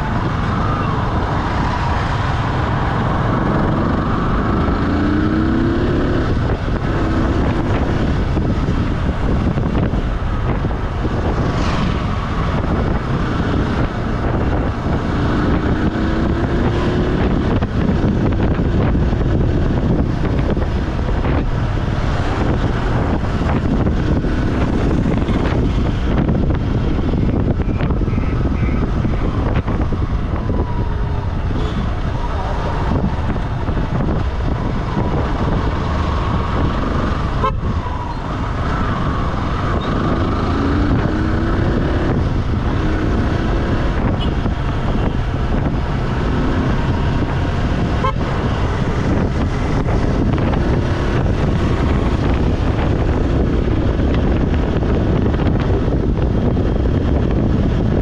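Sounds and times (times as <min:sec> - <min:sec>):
vehicle engine and tyre noise: 0:00.0 - 0:58.0
wind noise on microphone: 0:00.0 - 0:58.0.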